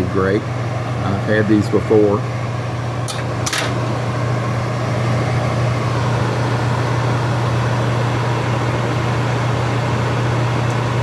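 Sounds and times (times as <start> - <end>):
appliance fan humming: 0.0 - 11.0.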